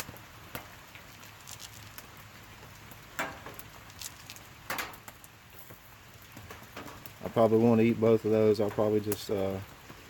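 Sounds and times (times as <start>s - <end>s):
light rain pattering: 0.0s - 10.0s.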